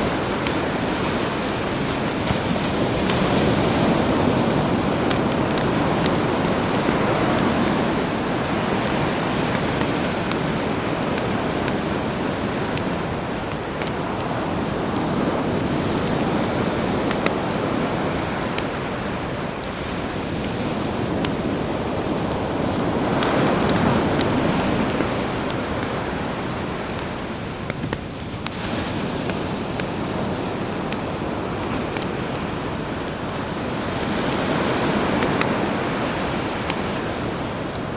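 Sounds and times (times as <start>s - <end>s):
campfire crackling and popping: 0.0s - 37.9s
sea waves: 0.0s - 37.9s.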